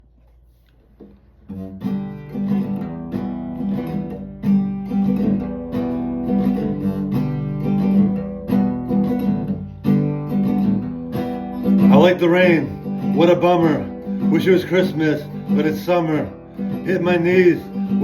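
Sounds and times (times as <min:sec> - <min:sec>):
acoustic guitar strumming: 0:01.4 - 0:18.0
faint guitar pluck: 0:01.5 - 0:18.0.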